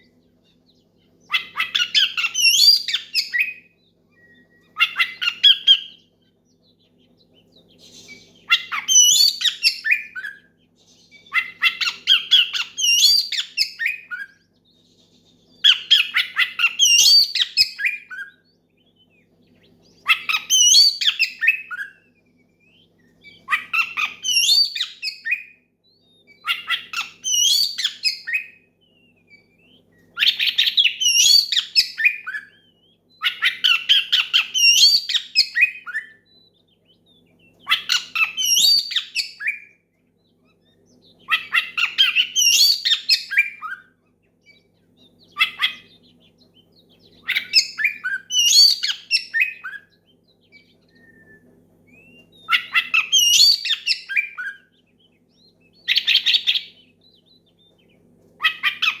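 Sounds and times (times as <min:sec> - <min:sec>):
bird singing whistles and harsh notes: 0:01.2 - 0:59.0.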